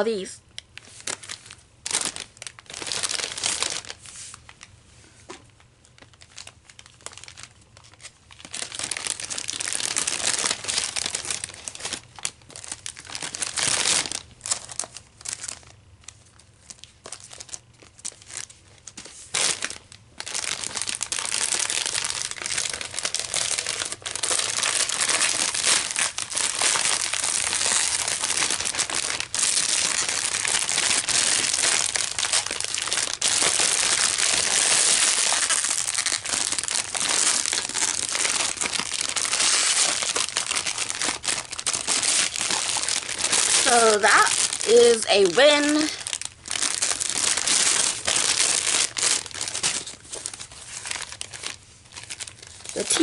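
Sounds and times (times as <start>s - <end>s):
plastic bag crinkling: 0.0s - 4.8s, 5.5s - 53.0s.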